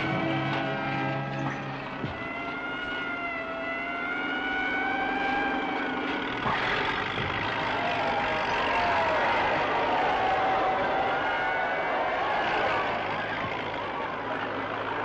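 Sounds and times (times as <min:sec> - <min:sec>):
siren wailing: 0:00.0 - 0:15.0
vehicle engines running: 0:00.0 - 0:15.0.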